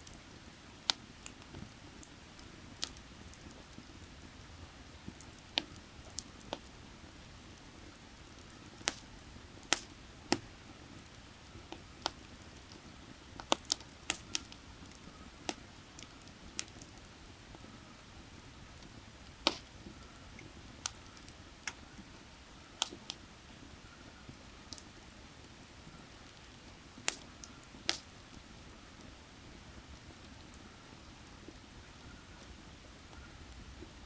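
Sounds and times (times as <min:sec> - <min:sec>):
firewood crackling and popping: 0:00.0 - 0:34.0.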